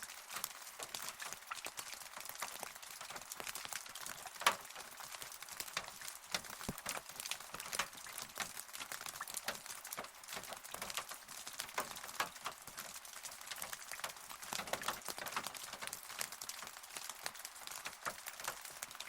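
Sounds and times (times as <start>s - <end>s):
rain drops pattering: 0.0s - 19.0s.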